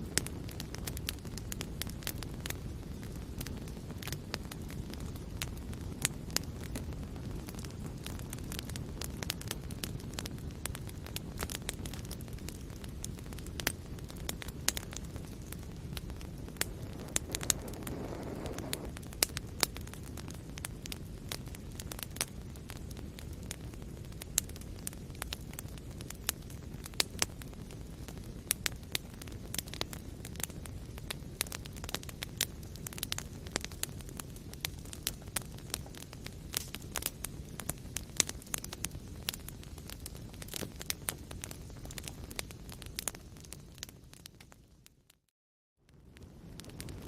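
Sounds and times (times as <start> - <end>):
soft fire hissing: 0.0 - 45.1, 45.9 - 47.0
low rumble of flames: 0.0 - 45.2, 45.8 - 47.0
wood fire crackling and popping: 0.0 - 45.3, 45.9 - 47.0.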